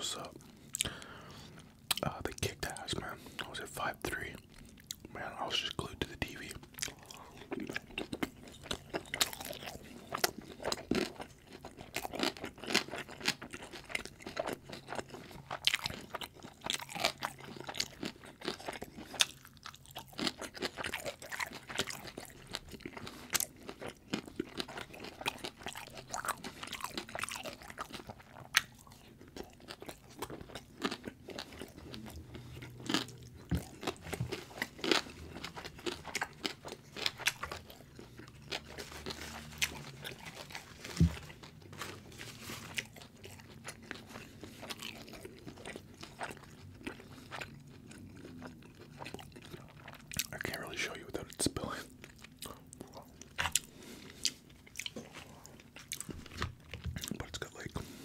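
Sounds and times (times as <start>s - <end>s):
crunching and chewing food: 0.0s - 58.0s.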